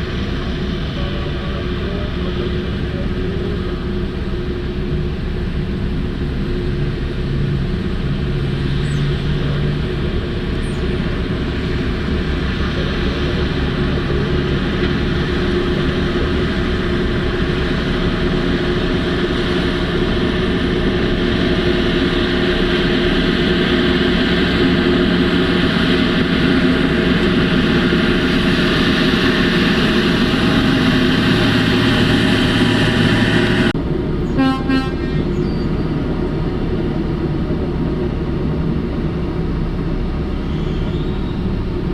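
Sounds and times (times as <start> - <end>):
diesel engine rumbling with whine: 0.0 - 41.9.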